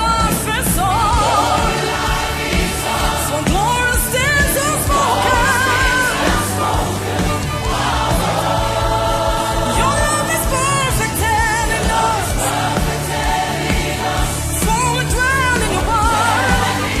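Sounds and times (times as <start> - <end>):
band accompaniment with bass: 0.0 - 17.0.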